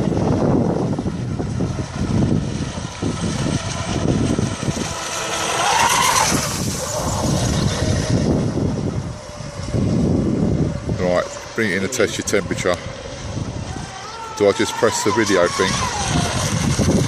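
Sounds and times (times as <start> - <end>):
rc speedboat motor whine: 0.0 - 17.0
wind buffeting microphone: 0.0 - 17.0.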